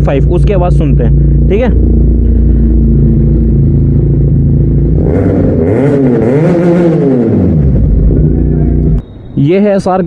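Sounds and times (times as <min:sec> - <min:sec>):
motorcycle engine idling and revving: 0:00.0 - 0:09.3.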